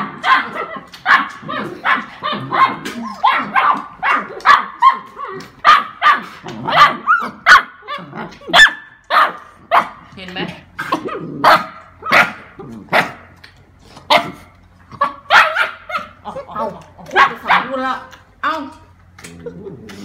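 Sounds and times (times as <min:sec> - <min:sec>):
puppies barking: 0:00.0 - 0:10.1, 0:10.8 - 0:13.4, 0:14.0 - 0:18.2.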